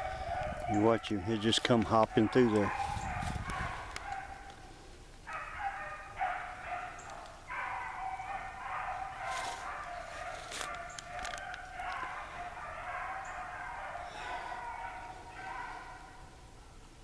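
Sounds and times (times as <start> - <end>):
hounds baying: 0.0 - 16.8.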